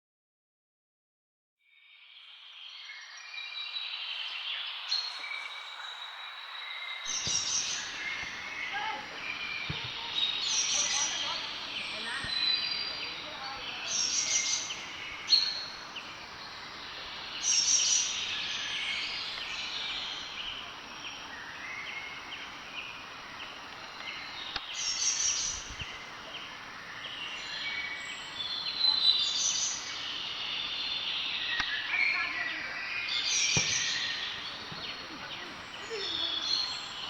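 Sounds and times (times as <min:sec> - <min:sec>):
faint background hiss: 0:01.9 - 0:37.0
birds chirping and calling: 0:03.6 - 0:37.0.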